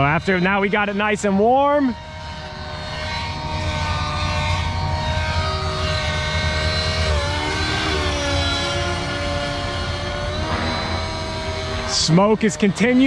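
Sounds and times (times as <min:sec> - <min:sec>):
model helicopter engine running: 0:00.0 - 0:13.0
rotors whirring: 0:00.0 - 0:13.0.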